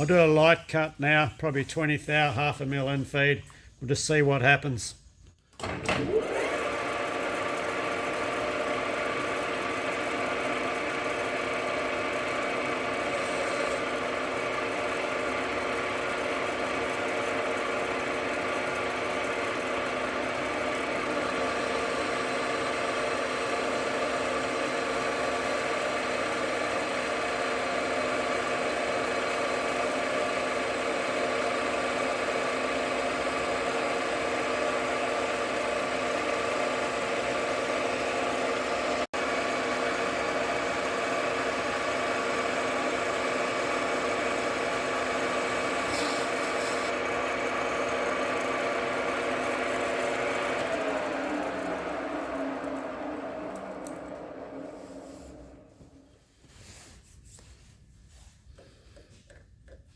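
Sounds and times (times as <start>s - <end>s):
motor and gearing hum: 5.6s - 56.0s
metal lathe running: 6.1s - 55.7s.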